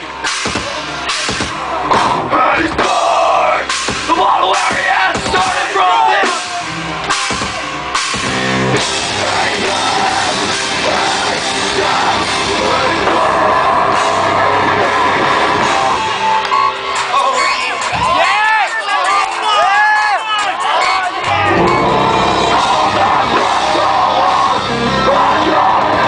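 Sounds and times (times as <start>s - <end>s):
drum kit: 0.0s - 18.3s, 20.4s - 26.0s
live heavy rock band: 0.0s - 18.7s, 20.4s - 26.0s
sung or yelled vocals: 1.7s - 6.8s, 8.8s - 16.3s, 17.0s - 26.0s.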